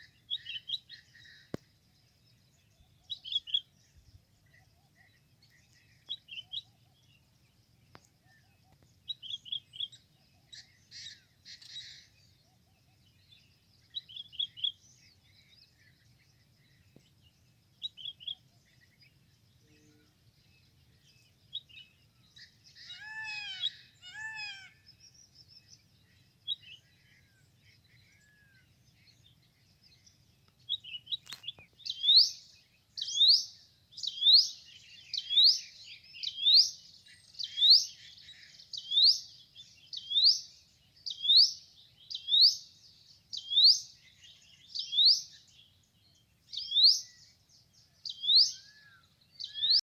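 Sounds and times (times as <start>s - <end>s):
birds chirping and calling: 0.0s - 1.6s, 7.9s - 19.3s, 20.4s - 45.8s, 46.5s - 49.8s.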